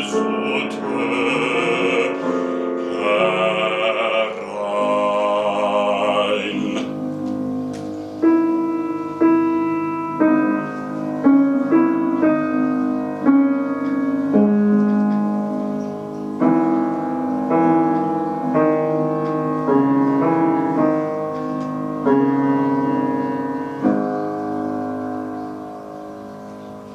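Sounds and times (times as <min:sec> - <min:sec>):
piano chords ringing: 0:00.0 - 0:26.9.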